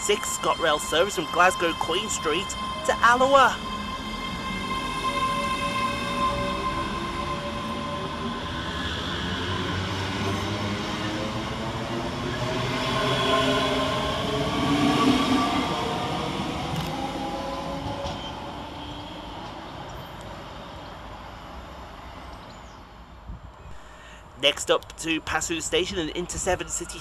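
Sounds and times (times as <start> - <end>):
wheels rumbling on rail: 0.0 - 23.7.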